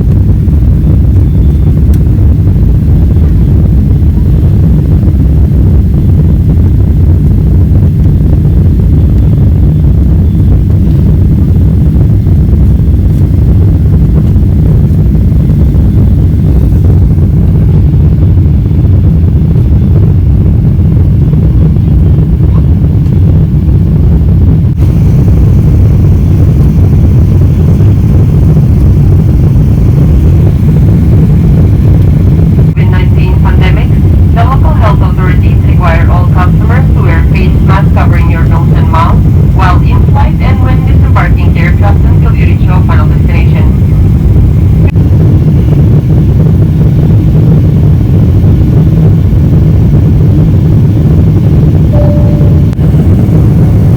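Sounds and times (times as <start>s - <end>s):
jet airliner cabin rumble: 0.0s - 53.9s.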